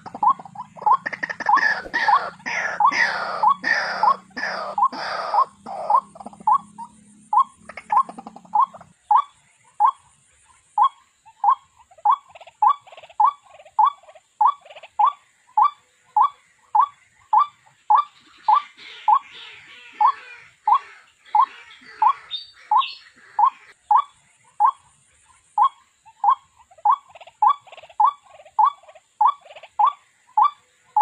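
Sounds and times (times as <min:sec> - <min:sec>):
scratchy bird chatter: 0:00.0 - 0:06.7, 0:07.4 - 0:31.0
bird croaking call: 0:00.0 - 0:31.0.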